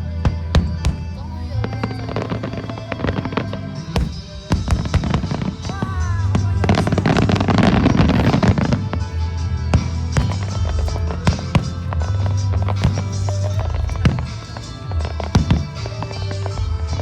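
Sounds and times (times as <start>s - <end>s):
fireworks crackling: 0.0s - 17.0s
show music over loudspeakers: 0.0s - 17.0s
fireworks bangs and pops: 0.3s - 17.0s.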